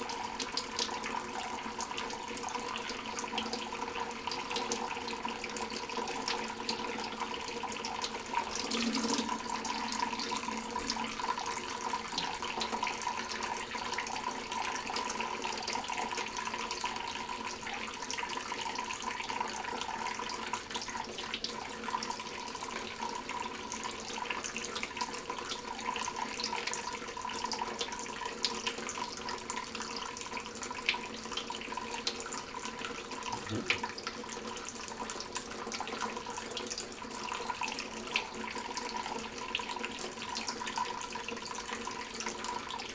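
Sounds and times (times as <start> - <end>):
tap water running into sink: 0.2 - 42.9.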